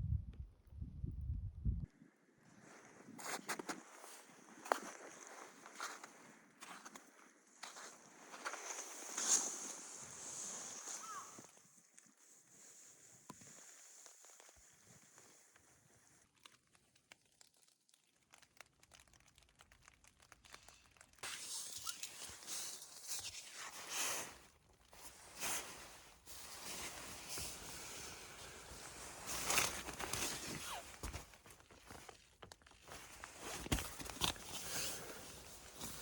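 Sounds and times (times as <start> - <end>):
crinkling and rustling handling: 3.2 - 36.0.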